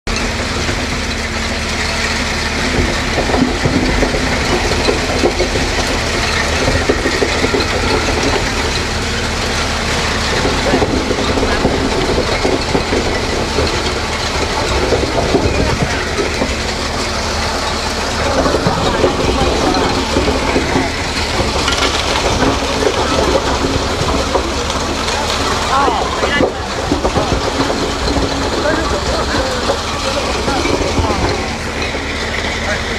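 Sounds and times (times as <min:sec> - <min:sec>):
machinery clattering and knocking: 0:00.0 - 0:32.9
machinery drone and hum: 0:00.1 - 0:32.9.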